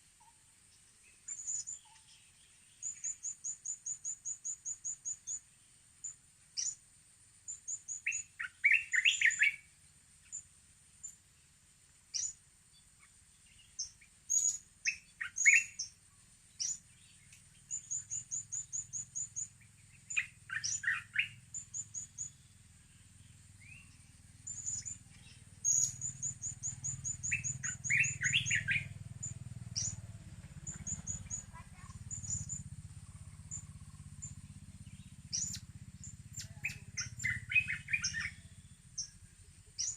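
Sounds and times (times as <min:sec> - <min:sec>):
small birds calling: 0:00.0 - 0:06.8, 0:07.4 - 0:39.9.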